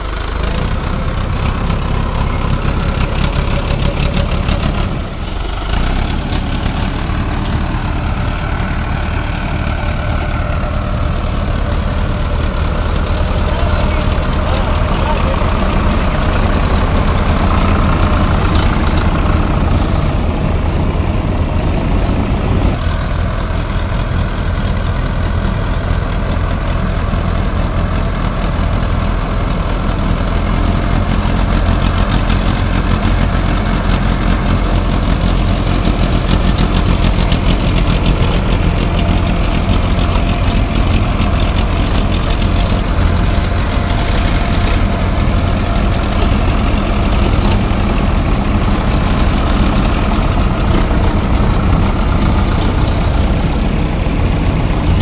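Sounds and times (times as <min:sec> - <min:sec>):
other tractor engines: 0:00.0 - 0:55.0
tractor diesel engine running: 0:00.0 - 0:55.0.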